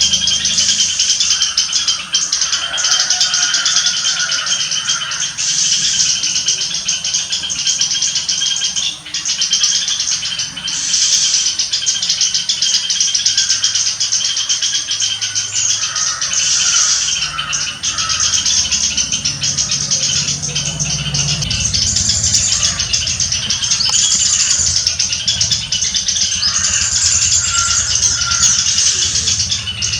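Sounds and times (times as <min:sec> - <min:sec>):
small birds chattering: 0:00.0 - 0:29.9.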